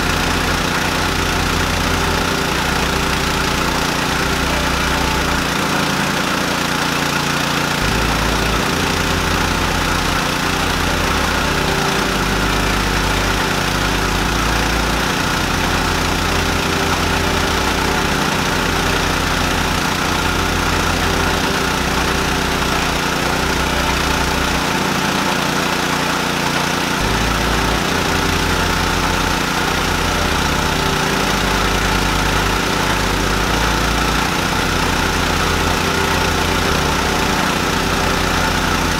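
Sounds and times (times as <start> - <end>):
petrol engine running: 0.0 - 38.9.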